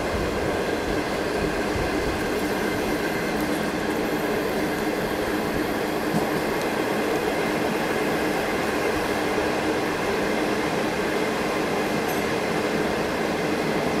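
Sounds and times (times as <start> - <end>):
train wheels on rails: 0.0 - 14.0
wind rushing through train coach: 0.0 - 14.0.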